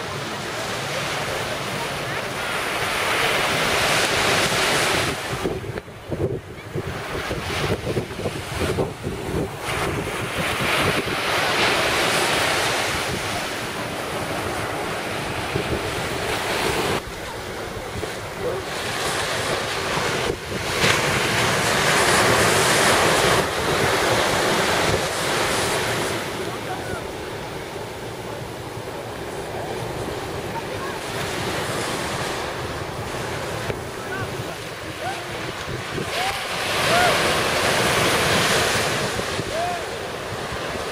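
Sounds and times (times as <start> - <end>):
surf breaking on a beach: 0.0 - 40.9
wind buffeting the microphone: 3.2 - 27.0, 29.9 - 40.9.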